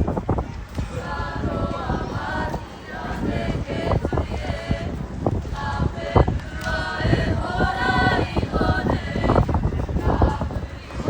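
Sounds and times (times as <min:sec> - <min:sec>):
children chanting: 0:00.8 - 0:11.0.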